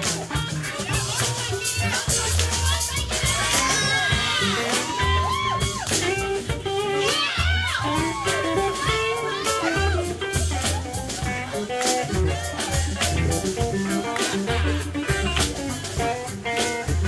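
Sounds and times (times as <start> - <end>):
drums and cymbals: 0.0 - 17.0
steady bass line: 0.0 - 17.0.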